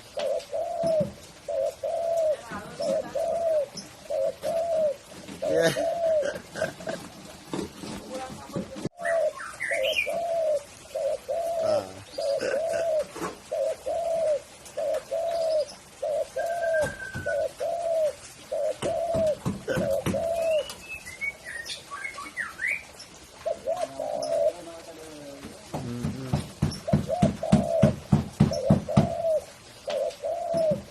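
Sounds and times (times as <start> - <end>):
dove cooing: 0.0 - 20.8, 22.2 - 30.9
small birds chirping faintly: 0.0 - 30.9.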